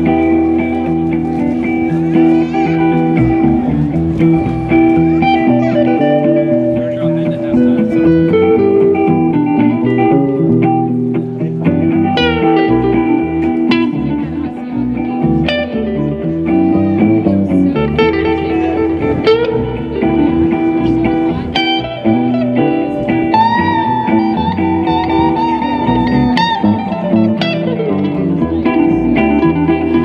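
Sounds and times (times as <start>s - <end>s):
lead guitar note bending: 0.0s - 30.0s
rock band playing: 0.0s - 30.0s.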